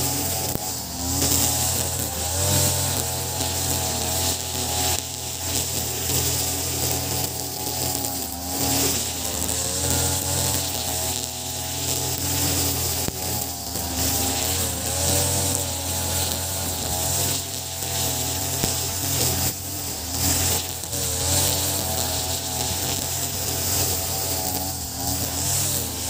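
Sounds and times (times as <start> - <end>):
brush cutter running: 0.0 - 26.0
nylon line whirring through grass: 0.0 - 26.0.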